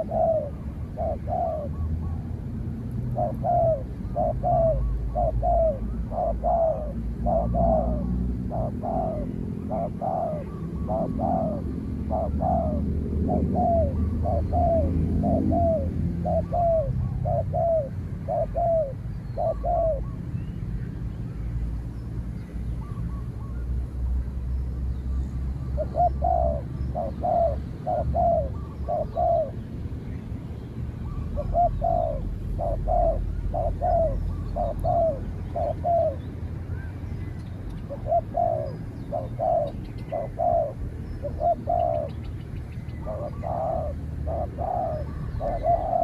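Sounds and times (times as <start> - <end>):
doves cooing: 0.0 - 20.2, 25.7 - 30.2, 31.0 - 46.0
small birds chirping: 0.0 - 23.8, 24.4 - 46.0.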